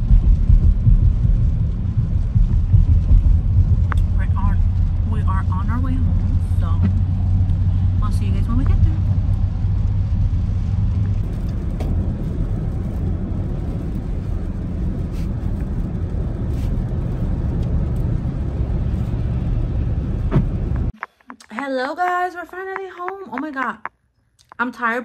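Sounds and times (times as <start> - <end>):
car road noise rumble: 0.0 - 23.8.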